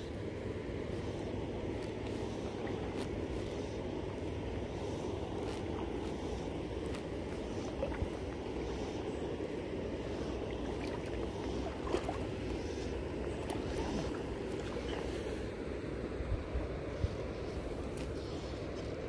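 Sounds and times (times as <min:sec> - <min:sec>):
flowing river water: 0:00.0 - 0:19.0
wind rumble on microphone: 0:00.0 - 0:19.0.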